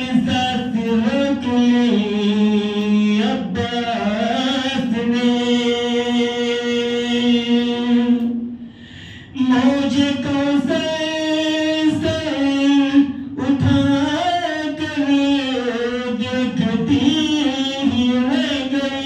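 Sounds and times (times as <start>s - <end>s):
man chanting into a microphone: 0.0s - 8.6s, 9.2s - 19.0s.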